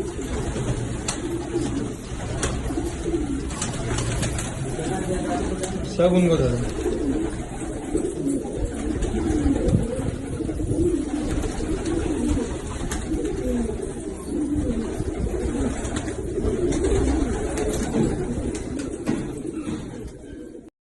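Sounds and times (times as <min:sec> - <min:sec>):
pigeons cooing: 0:00.0 - 0:20.7.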